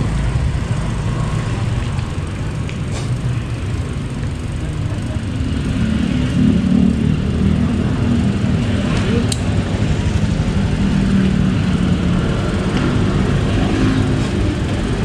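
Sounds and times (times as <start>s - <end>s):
road noise: 0.0s - 15.0s
small motorcycle engine running: 0.0s - 15.0s.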